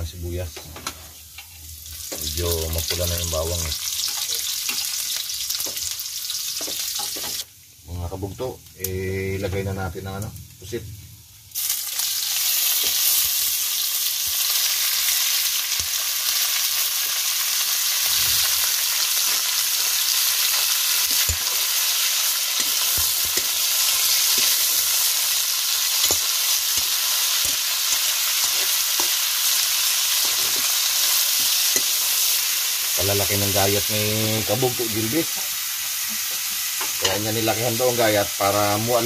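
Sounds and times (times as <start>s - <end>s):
seafood sizzling in hot oil: 1.1s - 7.5s, 11.4s - 39.0s.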